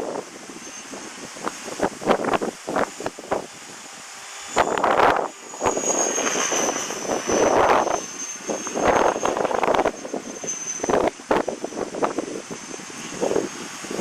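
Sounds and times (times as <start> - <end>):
rc helicopter motor whine: 0.0 - 14.0
wind buffeting microphone: 0.0 - 14.0.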